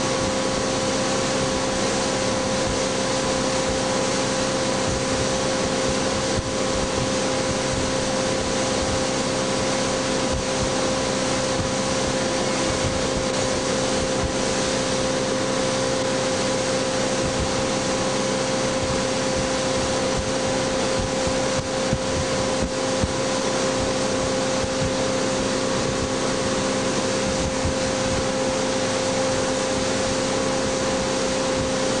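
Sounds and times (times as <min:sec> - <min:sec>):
motorboat engine running: 0:00.0 - 0:32.0
rush of wind and water: 0:00.0 - 0:32.0.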